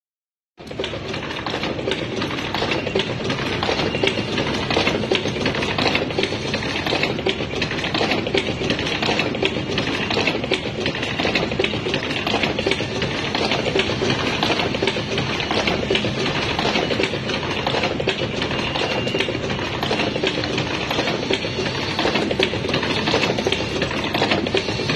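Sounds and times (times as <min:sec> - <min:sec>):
machine clattering and clicking: 0:00.6 - 0:24.9
machine running noise: 0:00.6 - 0:24.9.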